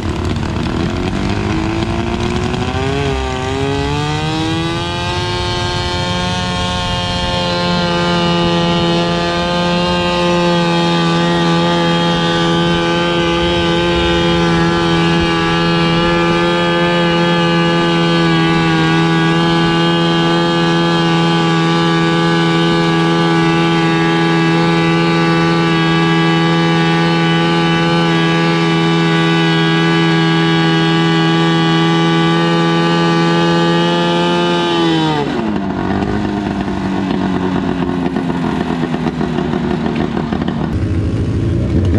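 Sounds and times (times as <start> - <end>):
tractor engine at high revs: 0.0 - 41.9.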